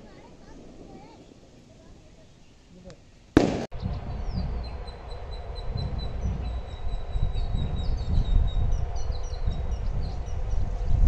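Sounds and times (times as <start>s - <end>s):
low gusty rumble: 0.0s - 11.0s.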